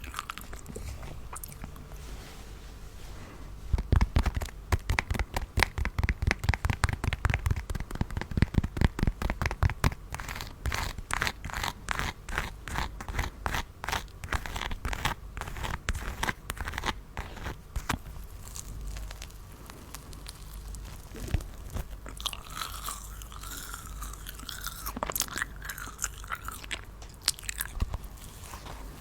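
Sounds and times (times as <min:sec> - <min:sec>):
candy crunching and crinkling: 0:00.0 - 0:01.9, 0:03.8 - 0:29.0.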